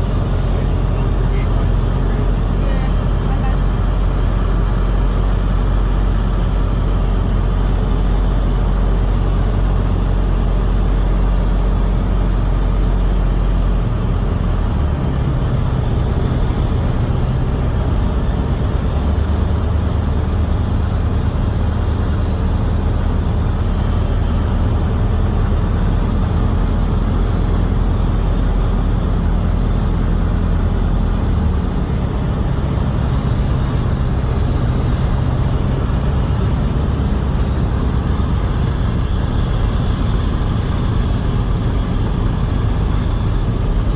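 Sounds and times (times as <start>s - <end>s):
light aircraft engine running: 0.0s - 43.9s.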